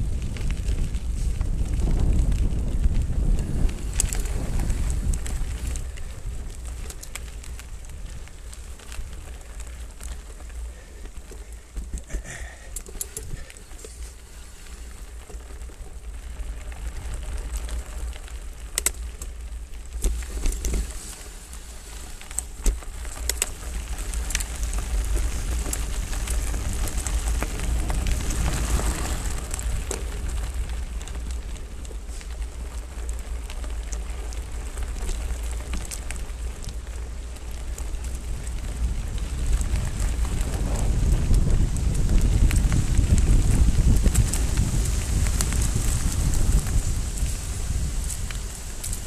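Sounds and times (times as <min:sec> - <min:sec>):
bike tyres crunching on gravel: 0:00.0 - 0:49.0
wind rumble on microphone: 0:00.0 - 0:49.0
bike knocking over rocks: 0:00.1 - 0:46.8.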